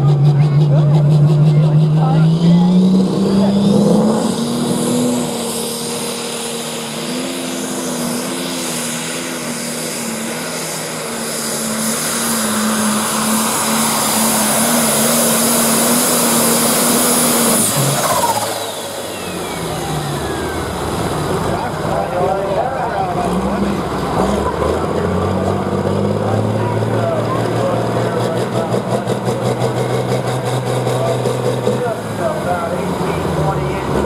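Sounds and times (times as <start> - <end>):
high turbo whine: 0.0 - 34.0
tractor engine running flat out: 0.0 - 34.0.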